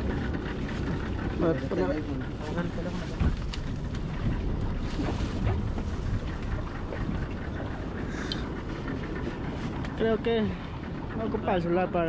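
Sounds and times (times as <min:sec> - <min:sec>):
choppy sea washing: 0:00.0 - 0:12.0
wind buffeting microphone: 0:00.0 - 0:12.0.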